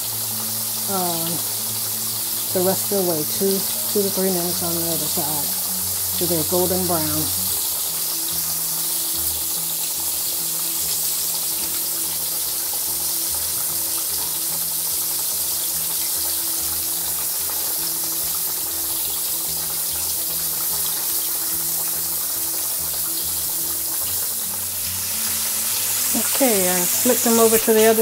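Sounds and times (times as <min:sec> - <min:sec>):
meat deep-frying sizzle: 0:00.0 - 0:28.0.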